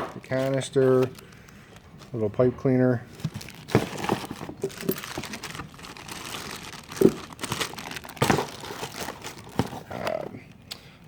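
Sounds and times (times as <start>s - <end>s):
packaging crinkling: 0.0s - 2.2s, 3.1s - 10.2s.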